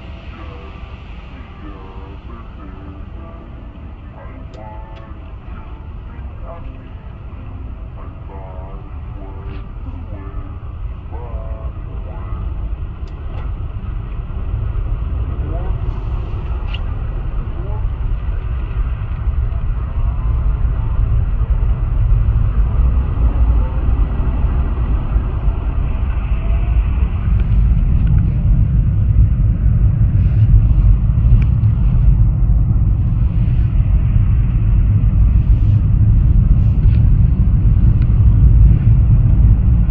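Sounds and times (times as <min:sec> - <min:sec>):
car wash machinery rumble: 0:00.0 - 0:39.9.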